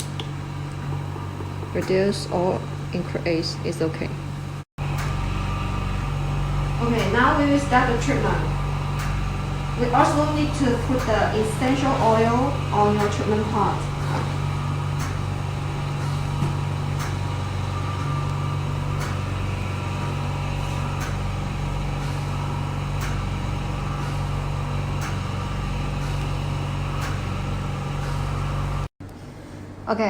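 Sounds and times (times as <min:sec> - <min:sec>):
machine humming: 0:00.0 - 0:28.9.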